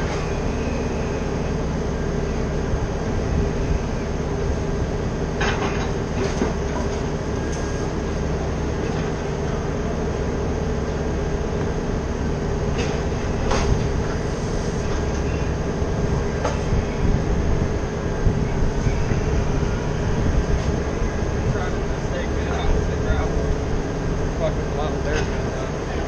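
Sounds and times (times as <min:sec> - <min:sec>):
heavy machinery engine drone: 0:00.0 - 0:26.0.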